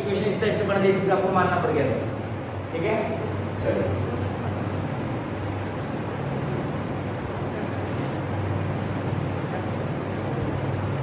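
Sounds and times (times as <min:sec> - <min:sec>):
rushing background noise: 0:00.0 - 0:11.0
steady low hum: 0:00.0 - 0:11.0.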